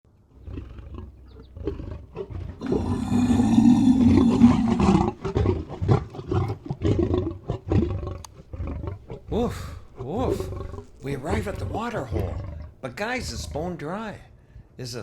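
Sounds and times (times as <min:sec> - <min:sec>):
big cat roaring: 0:00.4 - 0:13.8
big cat growling: 0:00.4 - 0:13.9.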